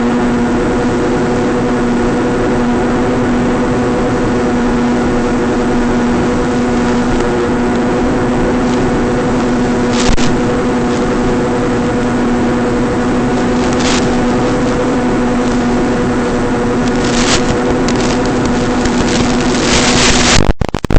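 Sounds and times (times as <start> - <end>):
electric motor and propeller droning: 0.0 - 20.4
static bursts: 0.8 - 20.9.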